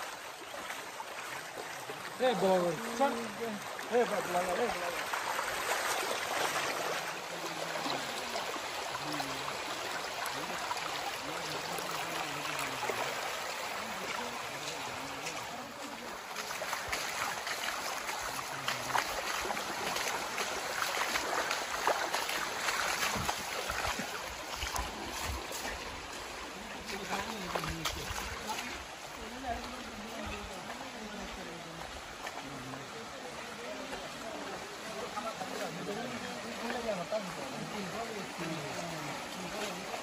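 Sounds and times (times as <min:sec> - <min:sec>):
stream rushing over rocks: 0:00.0 - 0:40.0
faint voices: 0:01.8 - 0:40.0.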